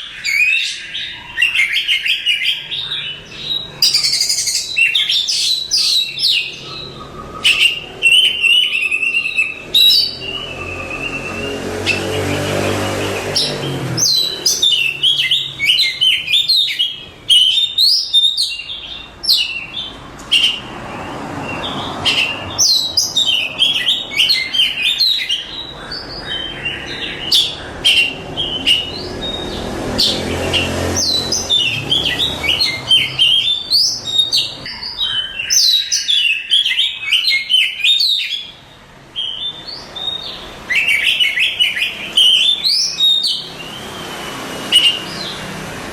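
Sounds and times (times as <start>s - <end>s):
bird singing varied song: 0.0s - 45.9s.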